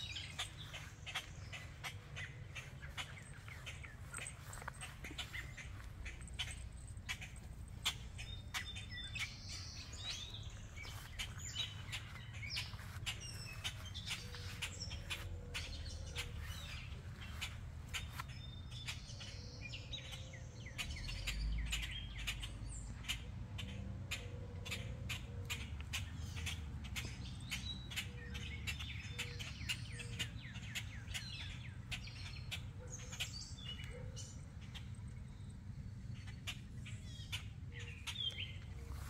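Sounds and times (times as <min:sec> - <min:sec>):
birds alarm calls: 0:00.0 - 0:35.0.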